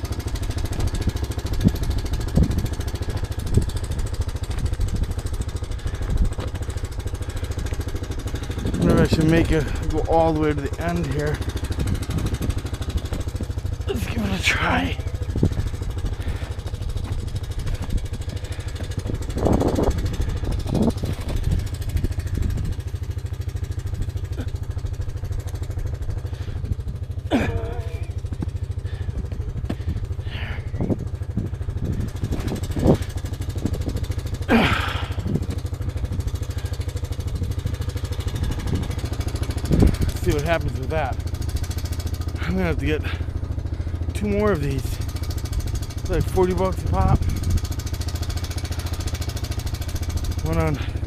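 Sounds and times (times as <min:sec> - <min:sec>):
wind buffeting microphone: 0:00.0 - 0:24.5, 0:25.9 - 0:27.2, 0:27.8 - 0:41.4, 0:45.1 - 0:48.4.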